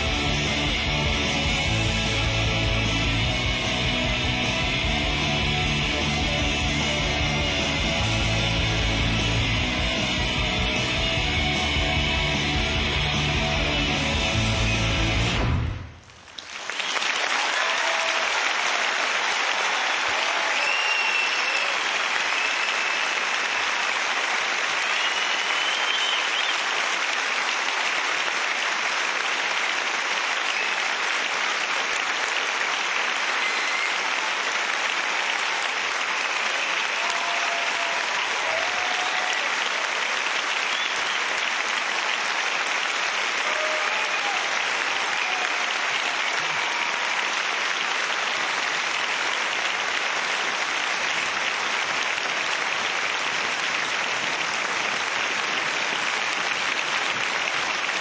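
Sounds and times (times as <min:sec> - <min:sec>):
audience applauding: 0:00.0 - 0:58.0.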